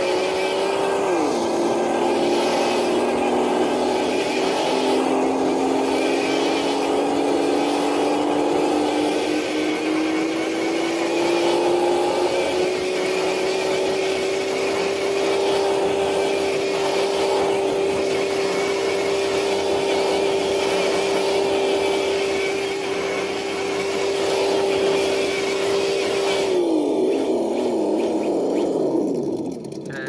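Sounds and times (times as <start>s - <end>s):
electric motor whining: 0.0s - 29.9s.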